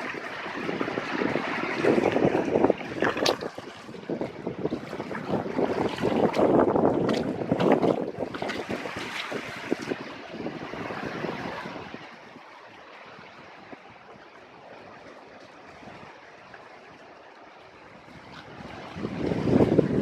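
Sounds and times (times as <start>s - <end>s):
sea waves washing in: 0.0s - 20.0s.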